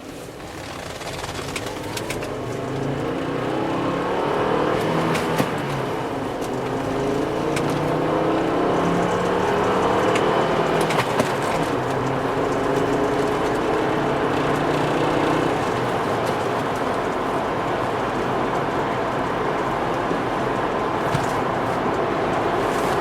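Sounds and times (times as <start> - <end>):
car engine pulling: 0.0 - 23.0
tyre and road noise: 0.0 - 23.0.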